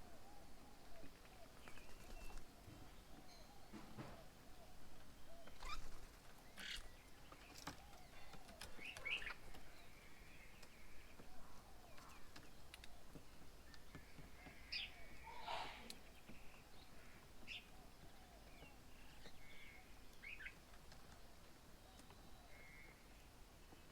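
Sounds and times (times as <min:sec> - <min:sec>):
birds calling and chirping: 0:00.0 - 0:23.9.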